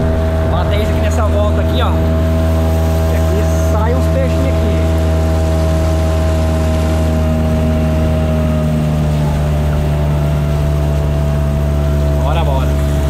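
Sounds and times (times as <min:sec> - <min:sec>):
boat motor droning: 0:00.0 - 0:13.0.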